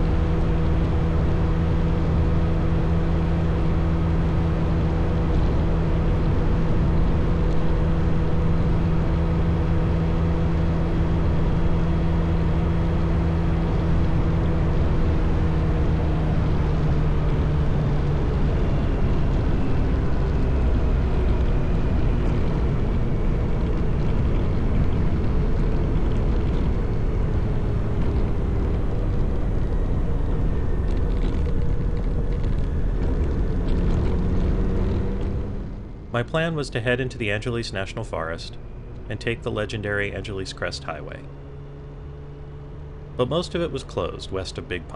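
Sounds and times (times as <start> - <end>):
motorcycle engine running: 0.0 - 36.2
wind and road noise: 0.0 - 44.9.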